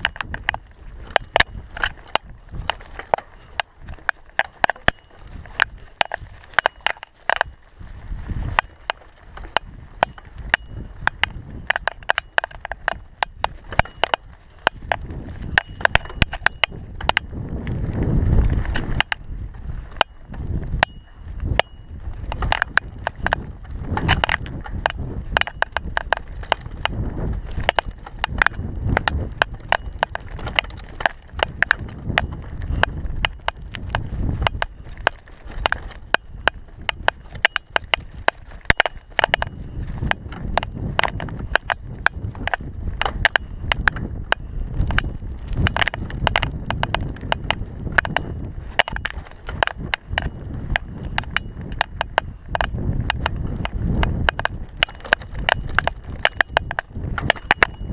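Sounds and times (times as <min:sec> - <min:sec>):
bike rattling and knocking: 0:00.0 - 0:57.9
bike tyres rumbling on dirt: 0:00.0 - 0:57.9.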